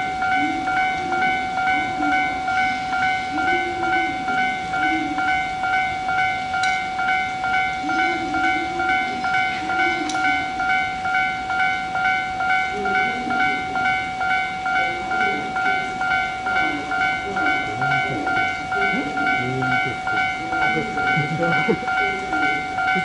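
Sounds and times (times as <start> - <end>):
railway warning bell ringing: 0.0 - 23.0.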